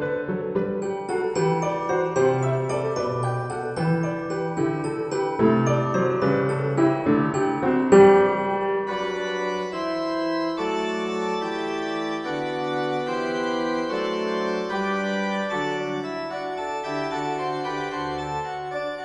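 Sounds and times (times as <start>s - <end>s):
keyboard playing slow melody: 0.0s - 19.0s.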